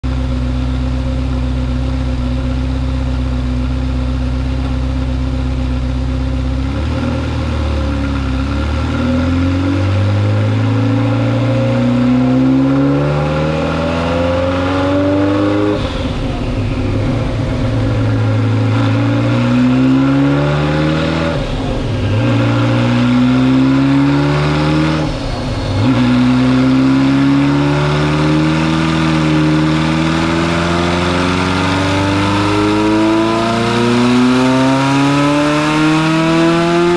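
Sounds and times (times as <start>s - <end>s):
car engine revving on dynamometer: 6.6s - 36.9s.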